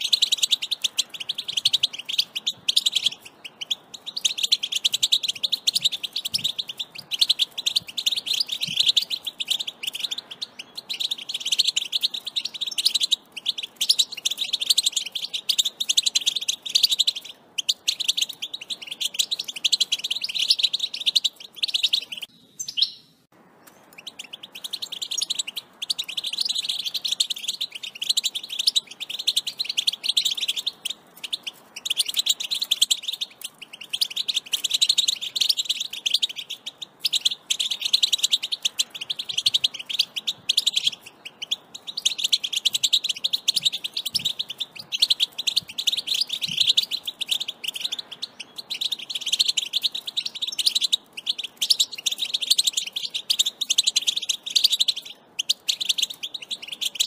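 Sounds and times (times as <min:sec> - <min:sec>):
goldfinch twittering: 0:00.0 - 0:23.0, 0:23.8 - 0:57.0.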